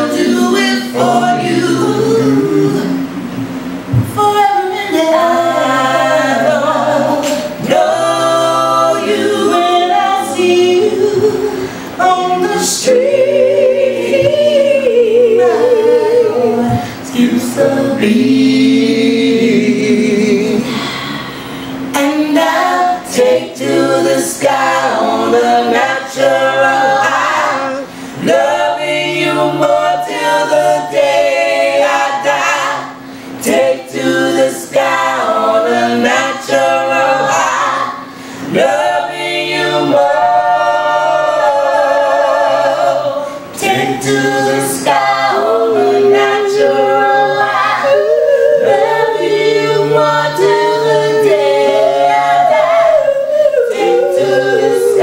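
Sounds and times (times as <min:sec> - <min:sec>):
group singing in harmony: 0:00.0 - 0:55.0.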